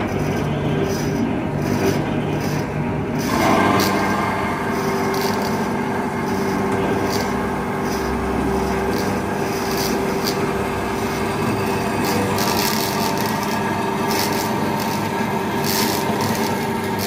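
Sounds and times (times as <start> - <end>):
band saw motor hum: 0.0 - 17.0
saw blade rasping through steel: 0.0 - 17.0.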